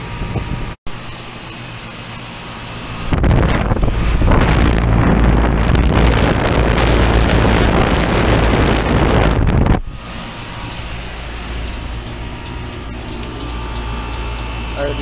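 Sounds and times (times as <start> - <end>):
fan air blowing on microphone: 0.0 - 15.0
heat pump hum: 0.0 - 15.0.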